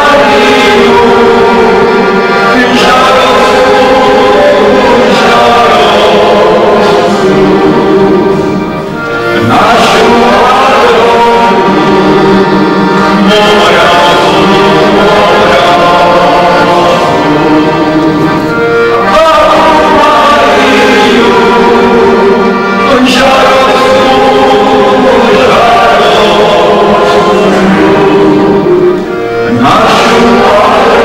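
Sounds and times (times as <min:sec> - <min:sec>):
button accordion playing folk tune: 0:00.0 - 0:31.0
person singing: 0:00.0 - 0:31.0.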